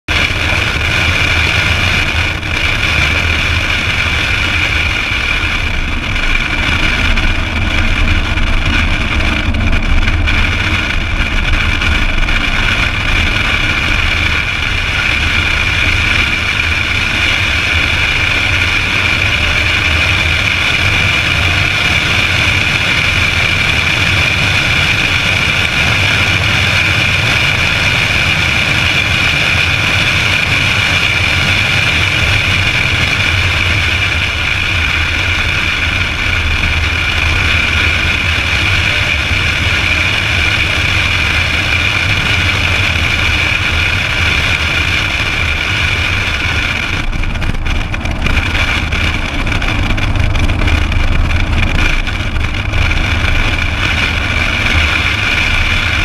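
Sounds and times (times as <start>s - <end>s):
car engine running hard: 0.0s - 56.0s
wind rushing over microphone: 0.0s - 56.0s.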